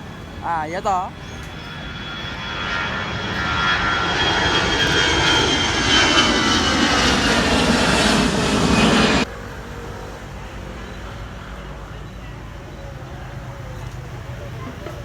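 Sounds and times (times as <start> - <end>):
airliner engines passing with whine: 0.0 - 15.0.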